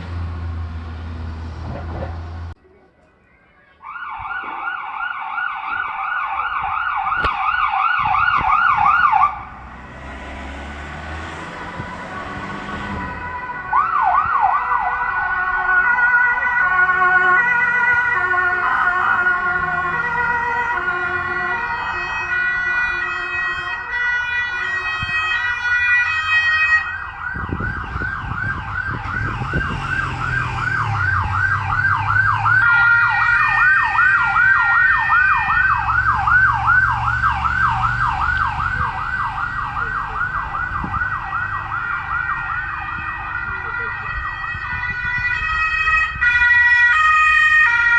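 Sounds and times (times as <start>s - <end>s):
low vehicle rumble: 0.0s - 3.6s, 6.5s - 47.9s
police siren: 3.8s - 47.9s.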